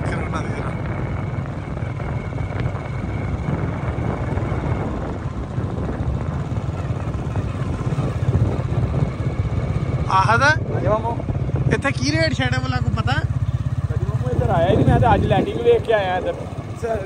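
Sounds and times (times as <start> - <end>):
vehicle rumble: 0.0 - 17.0
wind buffeting microphone: 0.0 - 17.0.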